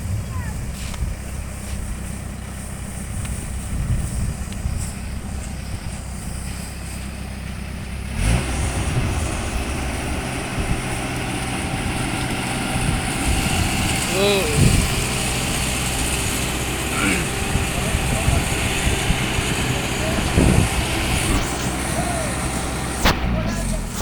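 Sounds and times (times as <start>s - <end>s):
harvester engine rumbling: 0.0s - 24.0s
rushing threshing noise: 0.0s - 24.0s.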